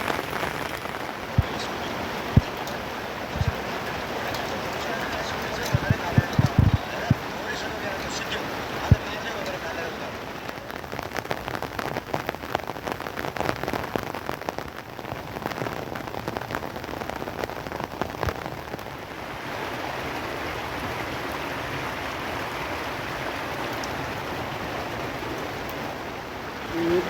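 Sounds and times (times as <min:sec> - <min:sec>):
rain drops striking surface: 0:00.0 - 0:27.0
steady hiss of rain: 0:00.0 - 0:27.0.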